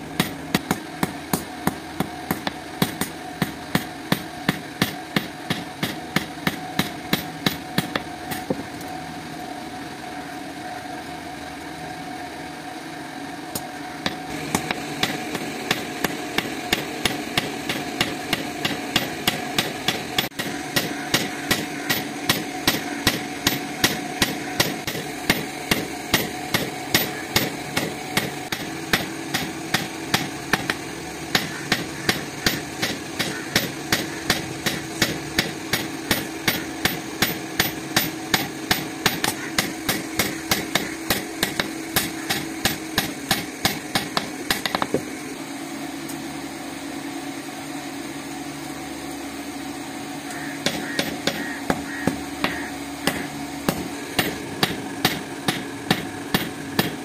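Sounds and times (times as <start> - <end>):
steady hum: 0.0 - 57.0
hammer striking hot steel on anvil: 0.1 - 8.6, 13.5 - 45.1, 50.3 - 57.0.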